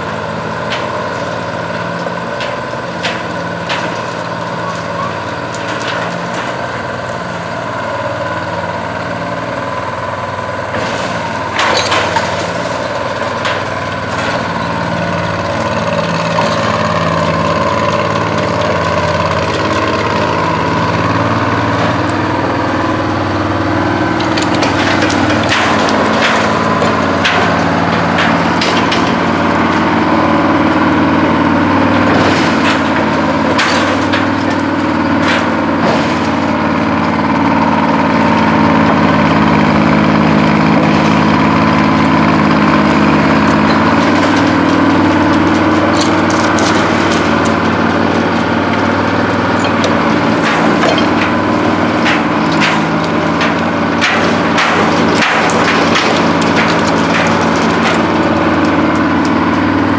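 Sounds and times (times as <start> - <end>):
shovel engine running: 0.0 - 59.9
bucket clanks and cracks: 0.5 - 7.2, 10.7 - 59.9.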